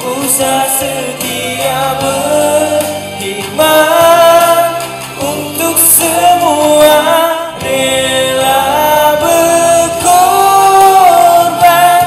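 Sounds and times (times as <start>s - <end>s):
accompaniment music: 0.0s - 12.0s
man singing: 0.0s - 12.0s.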